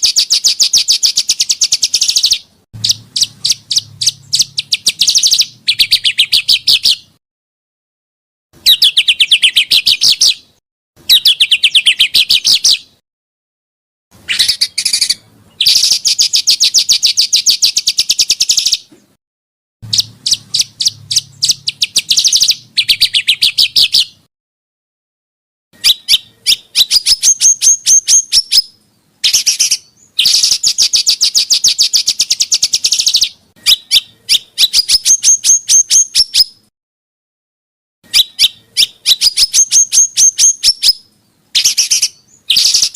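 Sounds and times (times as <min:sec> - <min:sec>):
songbird rapid rattling song: 0:00.0 - 0:07.2, 0:08.6 - 0:13.0, 0:14.2 - 0:19.2, 0:19.8 - 0:24.3, 0:25.8 - 0:36.7, 0:38.0 - 0:42.9.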